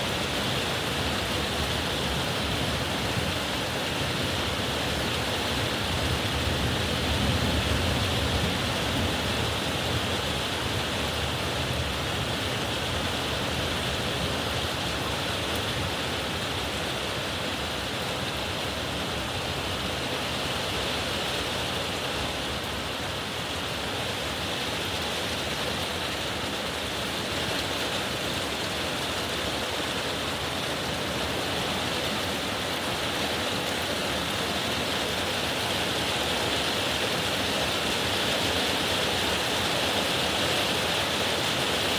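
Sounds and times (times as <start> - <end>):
heavy rain hissing: 0.0 - 41.9.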